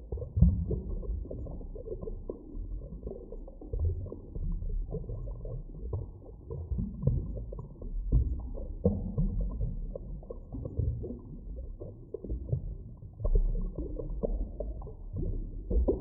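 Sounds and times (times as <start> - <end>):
low underwater rumble: 0.0 - 16.0.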